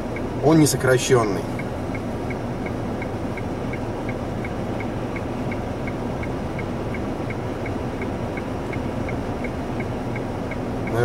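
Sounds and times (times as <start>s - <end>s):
car turn signal ticking: 0.0s - 11.0s
engine and tyre hum: 0.0s - 11.0s.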